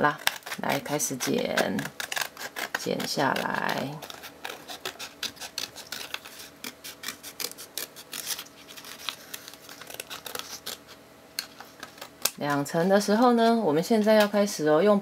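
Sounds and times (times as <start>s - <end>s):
scissors snipping paperboard: 0.0s - 14.3s.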